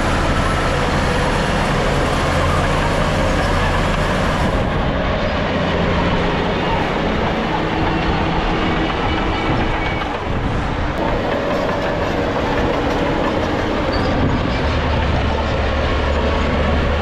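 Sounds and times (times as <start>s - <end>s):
deep engine drone: 0.0s - 17.0s
diesel engine under load: 0.0s - 17.0s
steel tracks clanking: 0.0s - 17.0s.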